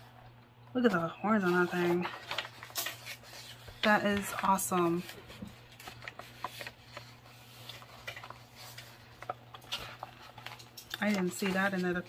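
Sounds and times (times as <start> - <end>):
paper pages rustling: 0.8 - 12.0.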